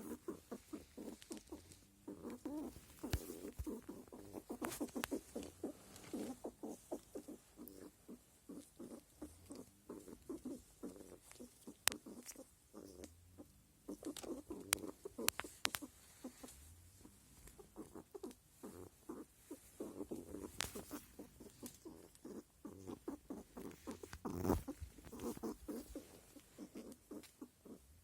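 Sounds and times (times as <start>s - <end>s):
squirrel grunting calls: 0.0s - 27.9s.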